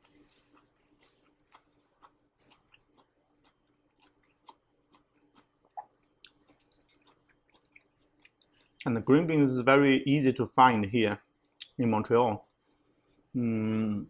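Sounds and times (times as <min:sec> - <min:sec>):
chewing crisp beans: 0:00.0 - 0:09.3, 0:11.2 - 0:14.0
faint steady hum: 0:00.0 - 0:14.0.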